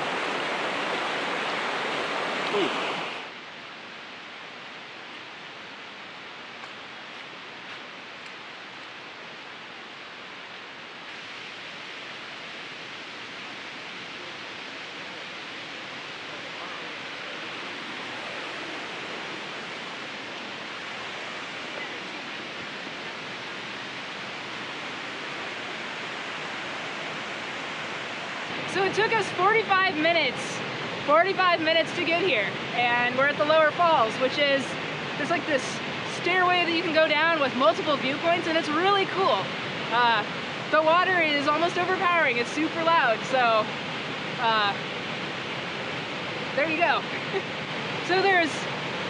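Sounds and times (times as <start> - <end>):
rushing water of waterfall: 0.0 - 49.0.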